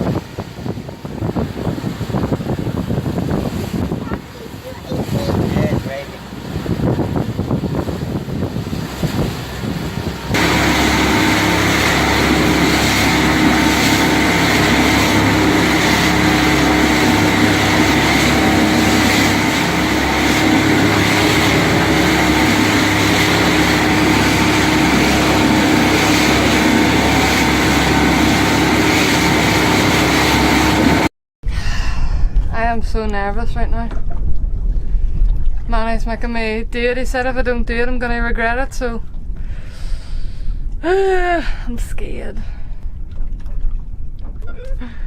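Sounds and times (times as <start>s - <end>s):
speedboat engine running: 0.0s - 31.1s, 31.9s - 45.0s
rushing wind and water: 0.0s - 45.0s.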